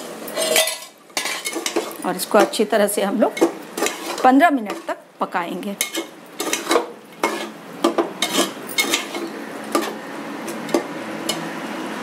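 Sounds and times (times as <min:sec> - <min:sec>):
food sizzling: 0:00.0 - 0:12.0
spoon scraping a pot: 0:00.2 - 0:02.6, 0:03.3 - 0:05.0, 0:05.8 - 0:11.5.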